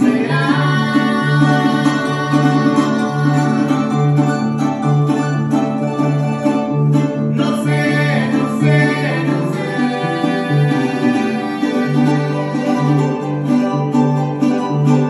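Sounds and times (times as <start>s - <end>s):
harp plucking bass and melody: 0.0s - 15.0s
strummed vihuela: 0.0s - 15.0s.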